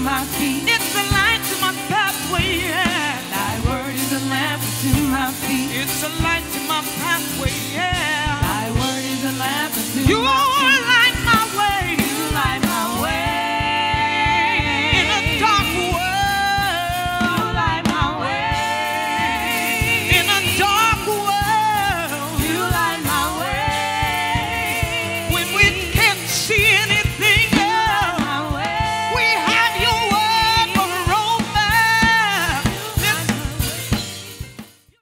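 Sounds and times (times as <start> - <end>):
person singing gospel: 0.0 - 34.6
backing band with drums: 0.0 - 35.0.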